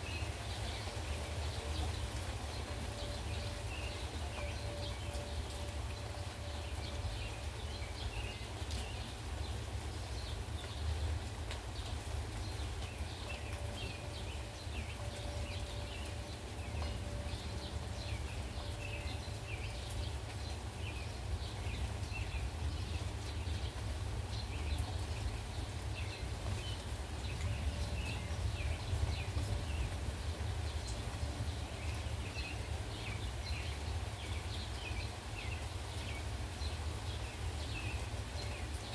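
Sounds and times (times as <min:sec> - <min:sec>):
bird chirping: 0:00.0 - 0:11.0, 0:11.8 - 0:38.9
low wind rumble: 0:00.0 - 0:38.9.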